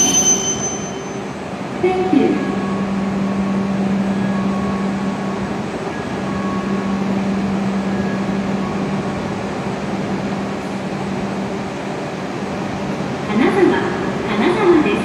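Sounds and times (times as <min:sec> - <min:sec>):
low drone of train equipment: 0:00.0 - 0:15.0.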